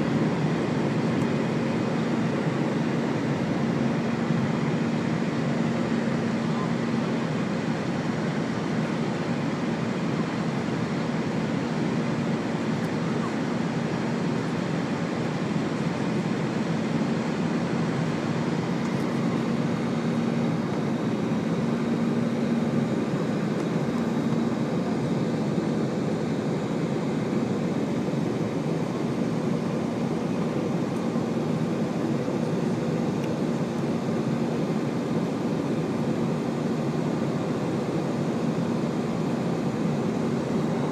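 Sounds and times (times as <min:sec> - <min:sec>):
jet engines rushing drone: 0:00.0 - 0:40.9.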